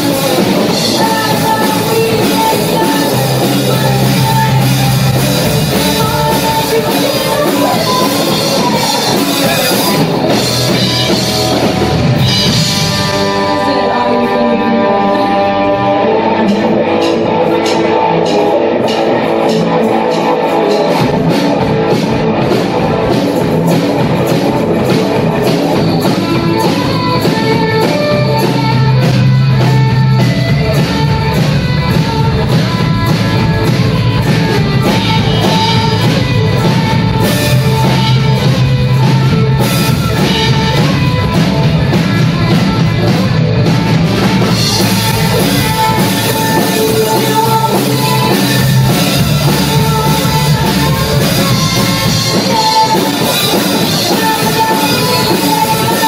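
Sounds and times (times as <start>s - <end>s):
drum kit beat: 0.0s - 56.0s
electric bass: 0.0s - 56.0s
electric guitar: 0.0s - 56.0s.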